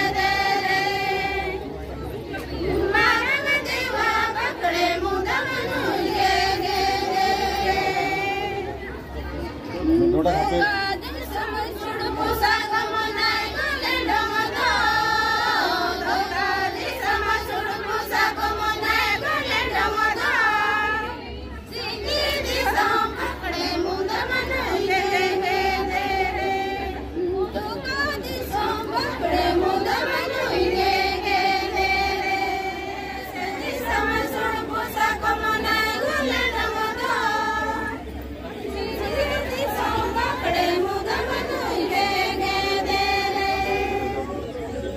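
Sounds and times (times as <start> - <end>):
women singing in unison: 0.0 - 1.8, 2.4 - 8.9, 10.3 - 44.4.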